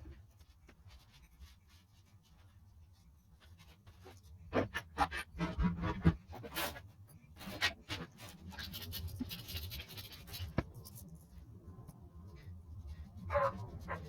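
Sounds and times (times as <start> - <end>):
scraping and rubbing strokes: 0.0 - 14.0.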